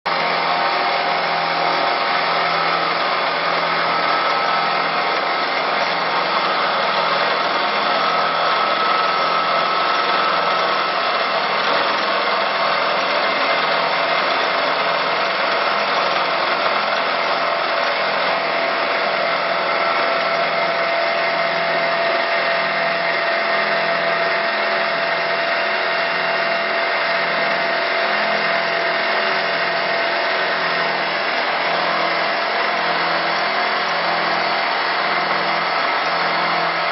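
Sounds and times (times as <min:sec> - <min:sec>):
wood lathe running: 0:00.1 - 0:36.9.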